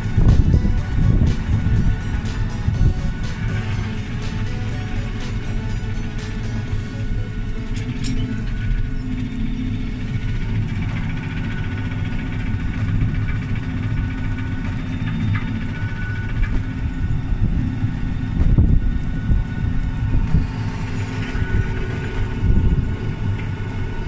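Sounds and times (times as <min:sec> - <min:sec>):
harvester machine rumble: 0:00.0 - 0:24.0
thin steady whine: 0:00.0 - 0:24.0.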